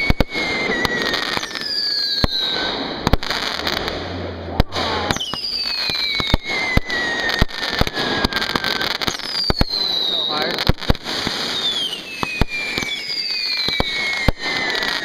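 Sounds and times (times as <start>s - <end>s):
fireworks bangs: 0.0s - 15.0s
whistling firework shots: 0.0s - 15.0s.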